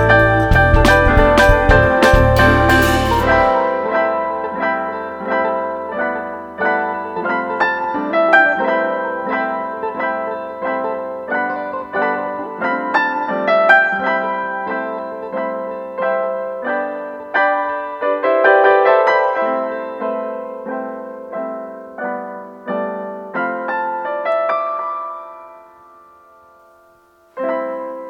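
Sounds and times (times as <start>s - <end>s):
gentle piano melody: 0.0s - 28.0s.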